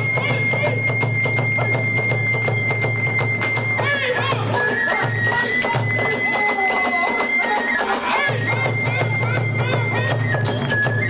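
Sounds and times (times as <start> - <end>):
bamboo flute high piercing note: 0.0 - 11.0
taiko drumming: 0.0 - 11.0.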